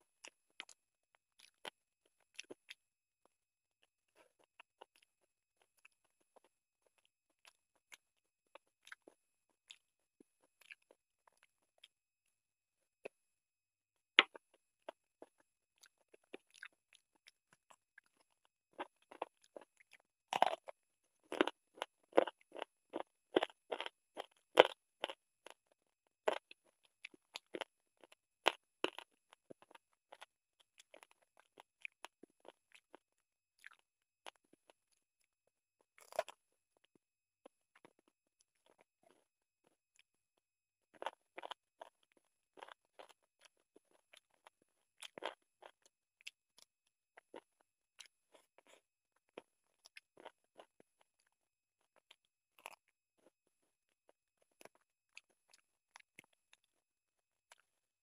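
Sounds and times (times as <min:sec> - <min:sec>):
chewing and crunching: 0:00.0 - 0:12.3, 0:14.2 - 0:58.0.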